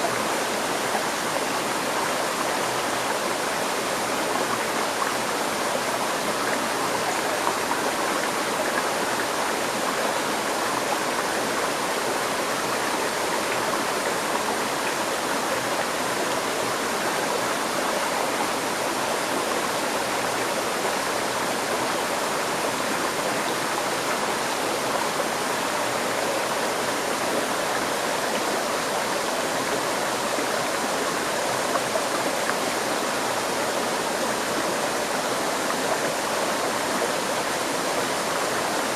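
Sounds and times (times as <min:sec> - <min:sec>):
river stream flowing: 0:00.0 - 0:38.9.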